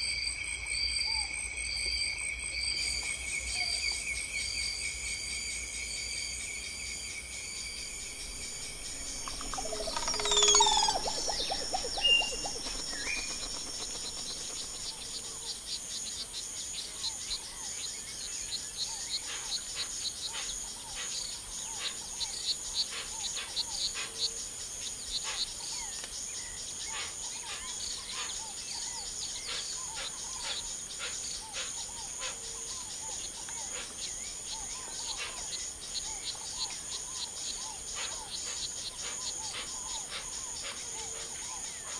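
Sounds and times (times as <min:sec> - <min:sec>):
insects trilling: 0:00.0 - 0:41.9
birds calling and chirping: 0:07.4 - 0:41.9.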